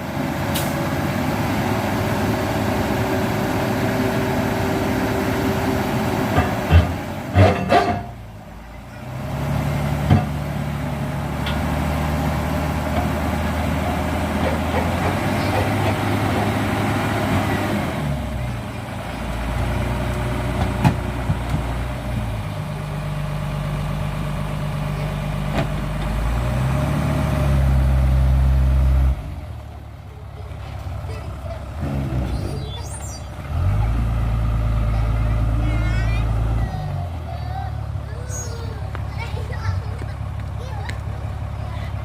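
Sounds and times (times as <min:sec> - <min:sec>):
truck diesel engine running: 0:00.0 - 0:42.0.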